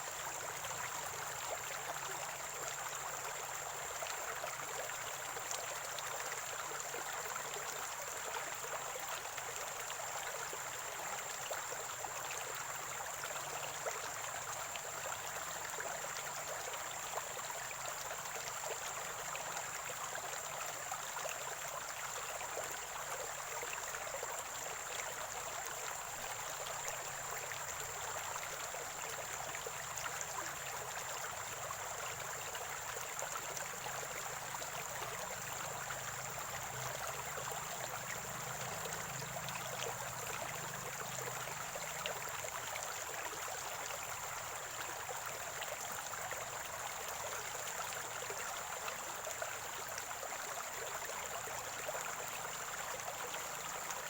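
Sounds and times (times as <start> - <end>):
water trickling over stones: 0.0 - 54.0.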